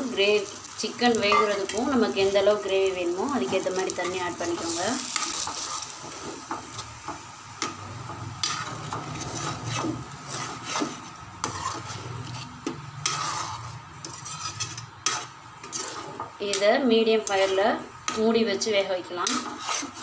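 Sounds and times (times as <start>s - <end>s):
metal spoon scraping a pan: 0.2s - 6.9s, 7.6s - 20.0s.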